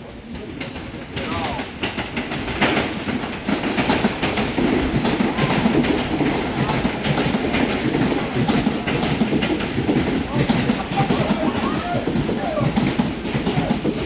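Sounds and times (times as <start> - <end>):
subway train rumbling on rails: 0.0 - 14.0.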